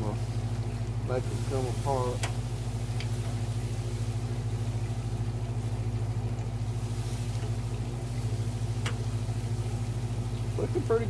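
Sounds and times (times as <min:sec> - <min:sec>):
motor humming with even pulse: 0:00.0 - 0:11.0.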